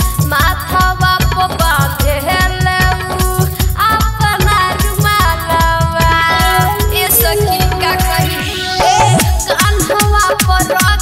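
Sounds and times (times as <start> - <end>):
song backing music thumping beat: 0.0 - 11.0.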